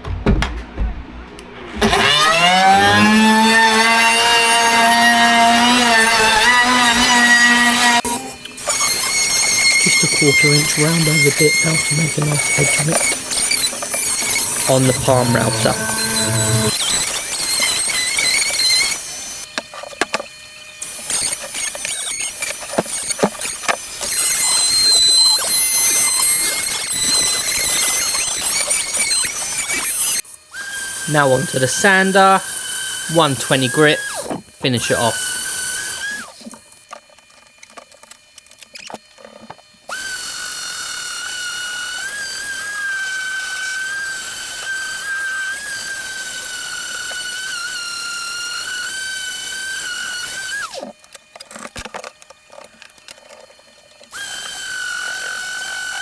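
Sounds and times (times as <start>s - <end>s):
router whining: 1.2s - 56.0s
power tool motor spinning up: 1.5s - 56.0s.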